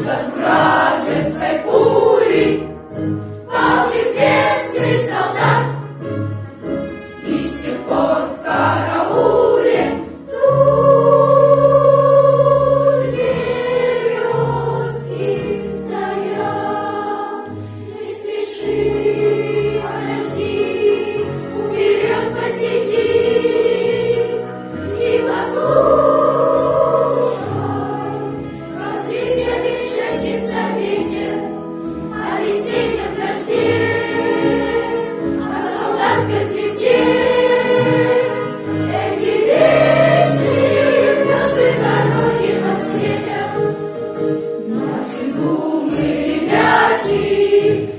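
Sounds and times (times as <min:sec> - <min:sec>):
choir singing: 0:00.0 - 0:06.0, 0:07.2 - 0:47.9.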